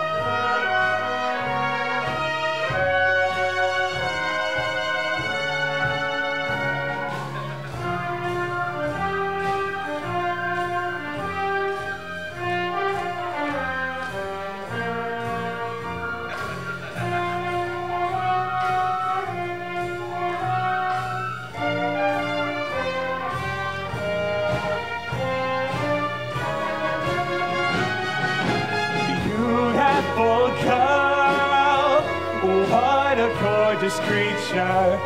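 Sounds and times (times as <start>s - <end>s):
brass band dance music: 0.0s - 35.0s.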